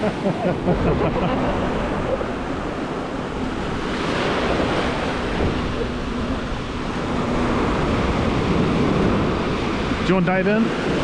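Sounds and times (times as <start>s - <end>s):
sea surf washing: 0.0s - 11.0s
wind rumbling on microphone: 0.0s - 11.0s.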